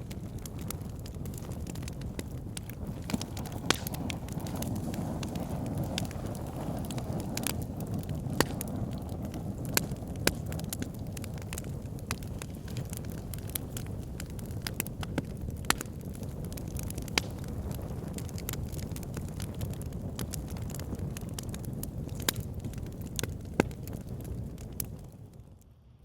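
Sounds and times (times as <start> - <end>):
wood fire crackling: 0.0 - 25.8.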